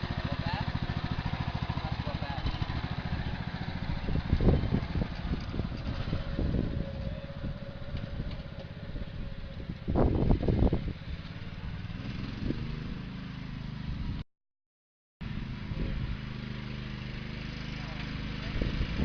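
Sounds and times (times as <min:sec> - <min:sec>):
engine running: 0:00.0 - 0:14.2, 0:15.2 - 0:19.0.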